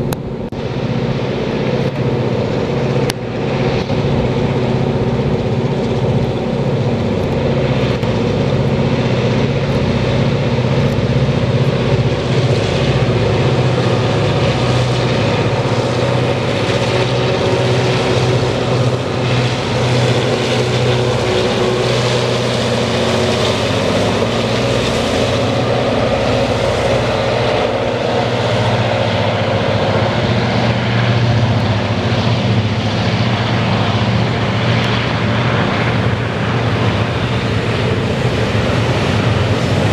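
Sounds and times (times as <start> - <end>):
deep diesel engine drone: 0.0 - 39.9.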